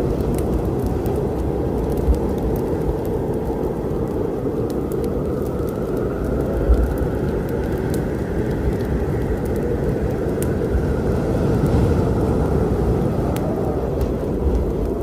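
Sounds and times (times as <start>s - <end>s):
low storm rumble: 0.0s - 15.0s
wood fire crackling: 0.0s - 15.0s.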